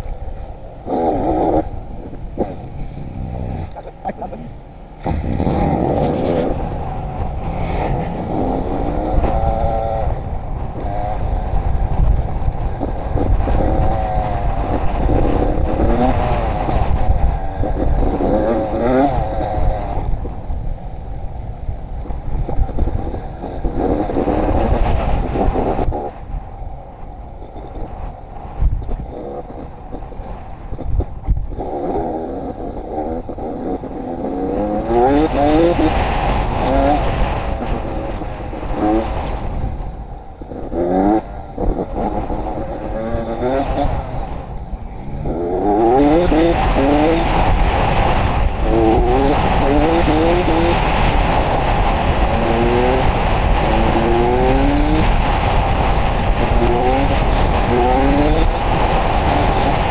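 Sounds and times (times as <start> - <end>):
wind rumble on microphone: 0.0 - 59.9
dirt bike engine revving: 0.8 - 11.8, 12.6 - 20.2, 22.4 - 26.1, 30.7 - 39.8, 40.4 - 59.9.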